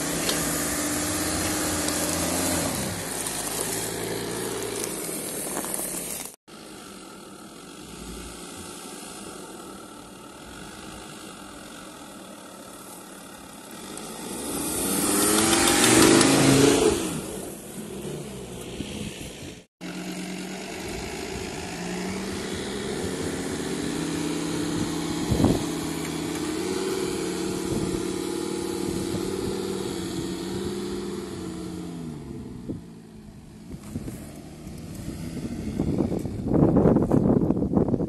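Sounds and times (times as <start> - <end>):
car engine pulling under load: 0.0 - 37.3.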